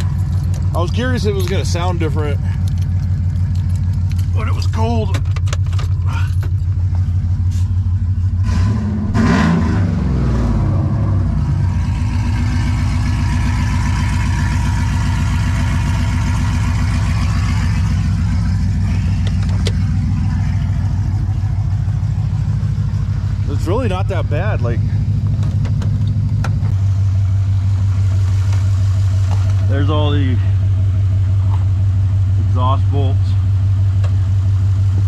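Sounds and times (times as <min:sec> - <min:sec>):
truck engine idling with throttle blip: 0:00.0 - 0:35.0.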